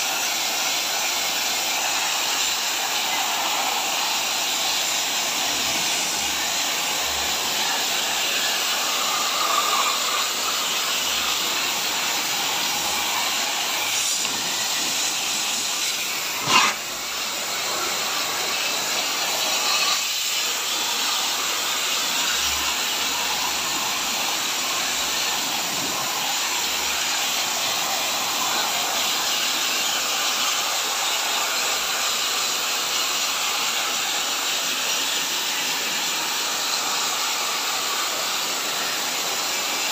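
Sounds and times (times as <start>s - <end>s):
pressure washer water jet hissing: 0.0s - 39.9s.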